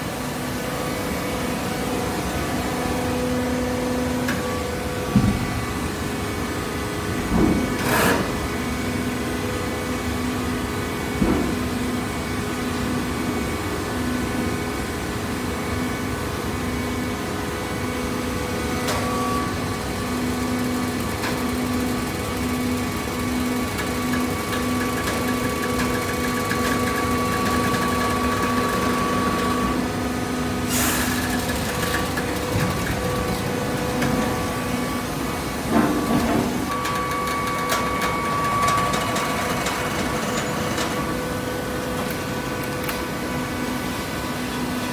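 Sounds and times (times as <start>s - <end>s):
baling press motor and pump hum: 0.0s - 44.9s.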